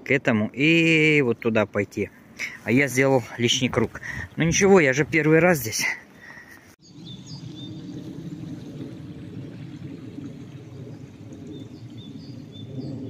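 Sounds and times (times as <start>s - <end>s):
small river running: 0.0s - 13.0s.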